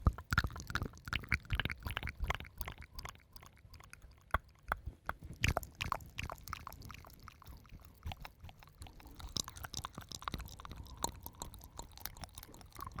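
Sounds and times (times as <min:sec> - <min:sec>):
wet mouth sounds: 0:00.0 - 0:13.0.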